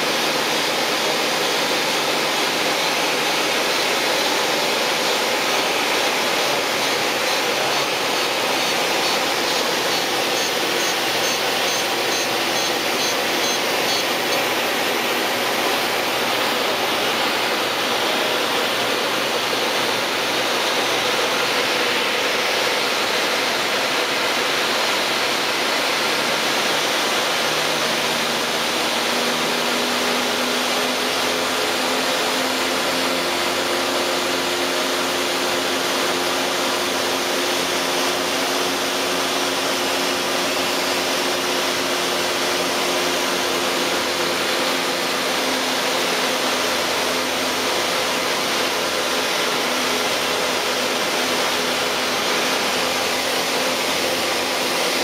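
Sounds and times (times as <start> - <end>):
faint propeller engine drone: 0.0 - 55.0.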